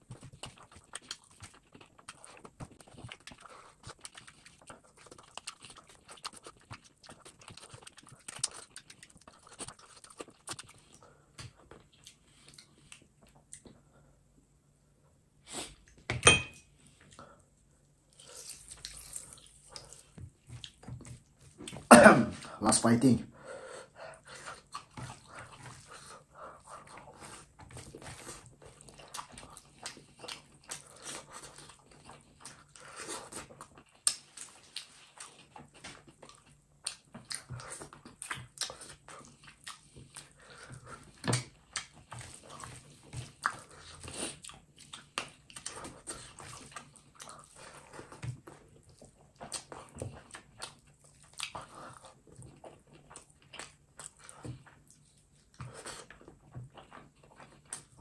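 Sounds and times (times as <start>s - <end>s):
chewing and lip-smacking: 0.0s - 13.9s, 18.1s - 21.9s, 23.9s - 58.0s.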